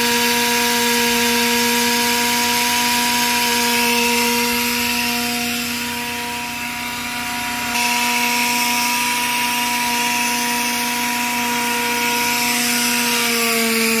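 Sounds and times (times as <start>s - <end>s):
grinding machine motor whine: 0.0s - 14.0s.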